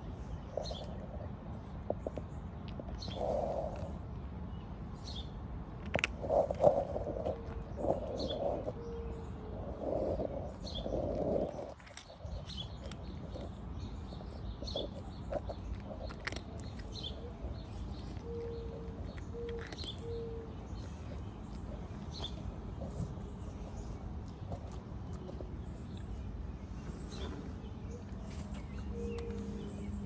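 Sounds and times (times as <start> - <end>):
low outdoor rumble: 0.0 - 30.0
small birds chirping: 0.0 - 30.0
cat crunching dry kibble: 0.6 - 8.8, 9.7 - 26.4.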